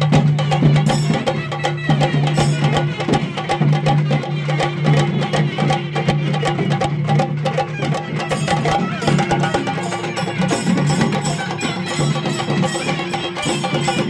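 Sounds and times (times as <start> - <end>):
drums struck rapidly: 0.0 - 14.0.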